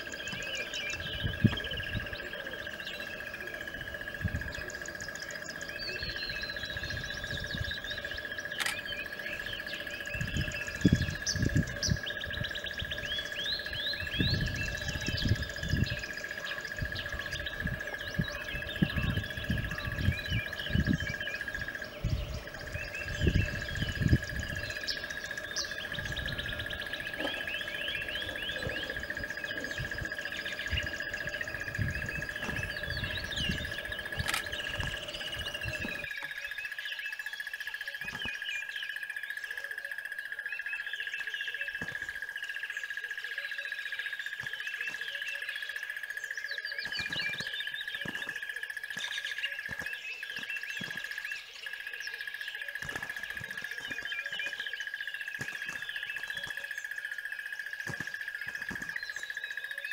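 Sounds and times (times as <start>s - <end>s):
small birds chirping and trilling: 0.0s - 59.9s
steady high-pitched whine: 0.0s - 59.9s.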